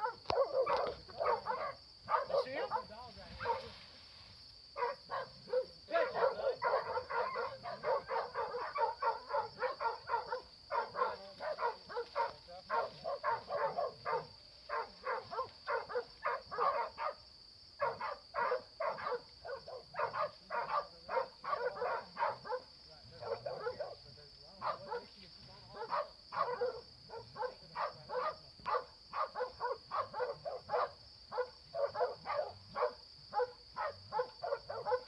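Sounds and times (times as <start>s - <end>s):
dog barking rapidly: 0.0s - 3.6s, 4.8s - 17.2s, 17.8s - 24.0s, 24.6s - 25.1s, 25.7s - 35.0s.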